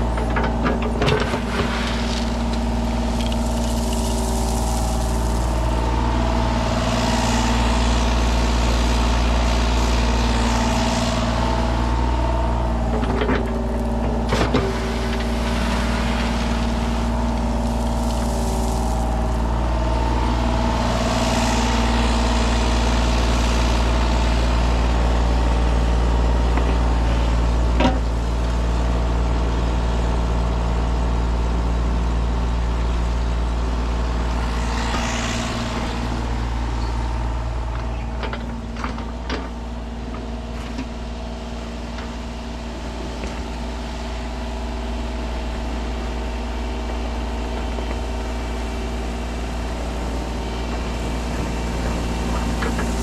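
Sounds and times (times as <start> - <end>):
diesel excavator engine running: 0.0 - 53.0.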